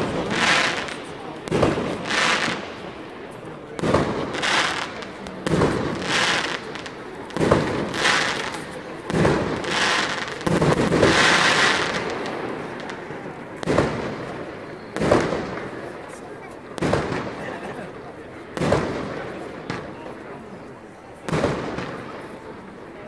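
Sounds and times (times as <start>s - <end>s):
fireworks bangs: 0.0s - 20.2s, 21.2s - 22.7s
crackling fireworks hiss: 0.0s - 23.0s.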